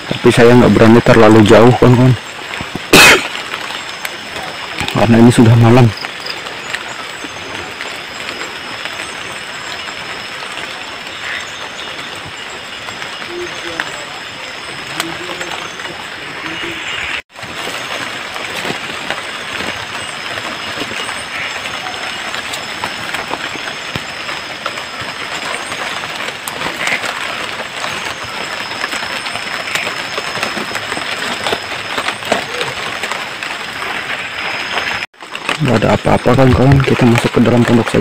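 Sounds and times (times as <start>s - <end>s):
raindrops dripping on leaves: 0.0s - 38.0s
steady rain in forest: 0.0s - 38.0s.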